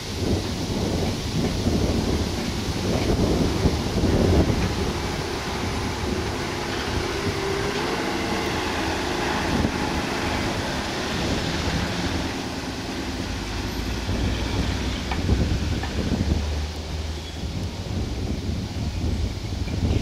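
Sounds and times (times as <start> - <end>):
diesel truck engine running: 0.0 - 19.9.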